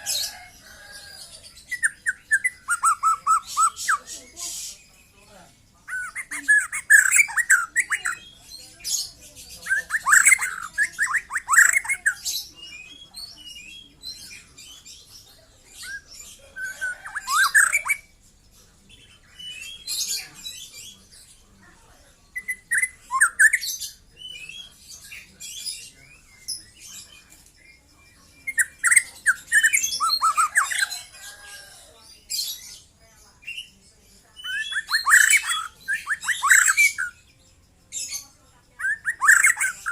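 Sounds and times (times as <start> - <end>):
shama bird singing: 0.0 - 21.4, 22.2 - 39.9.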